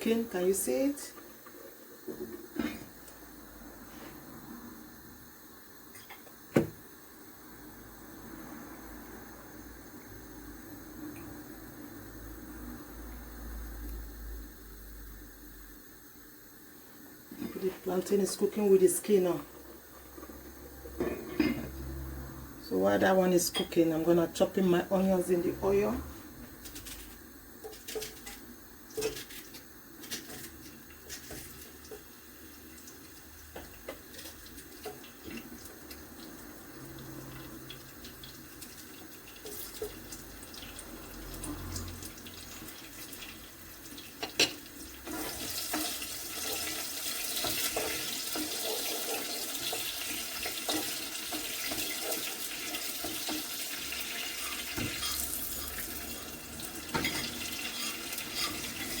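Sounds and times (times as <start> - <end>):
onions sizzling in oil: 0.0 - 59.0.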